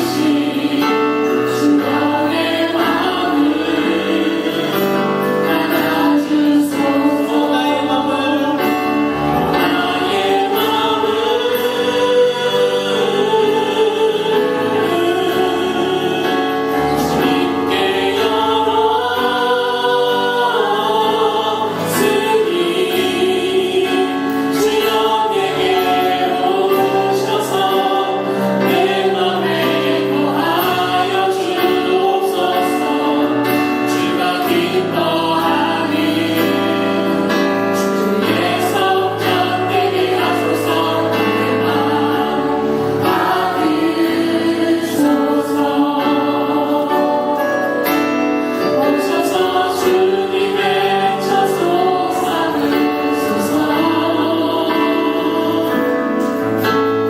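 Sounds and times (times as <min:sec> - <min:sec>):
choir singing slow choral piece: 0:00.0 - 0:57.0.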